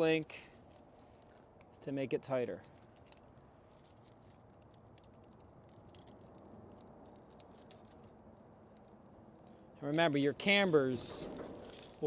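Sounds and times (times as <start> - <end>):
tire chain links clinking: 0.0 - 12.0.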